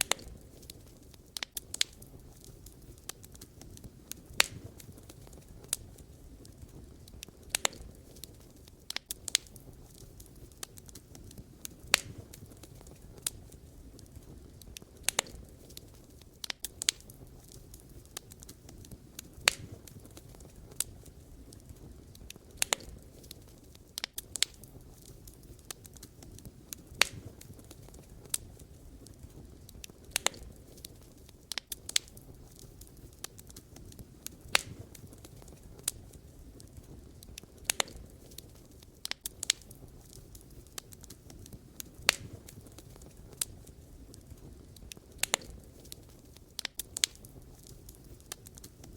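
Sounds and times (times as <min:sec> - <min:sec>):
burning logs crackling and popping: 0:00.0 - 0:48.9
low rumble of flame: 0:00.0 - 0:48.9.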